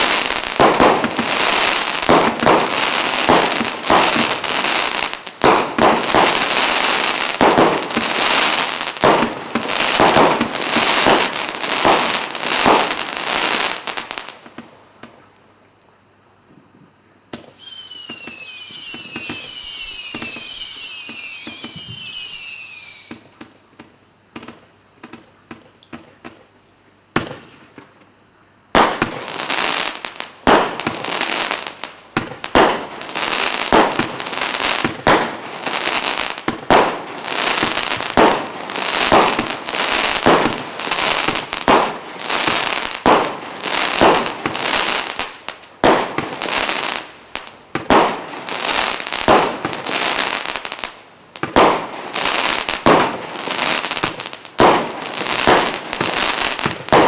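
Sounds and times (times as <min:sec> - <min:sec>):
firework hiss: 0:00.0 - 0:14.5, 0:17.5 - 0:23.9, 0:28.8 - 0:57.0.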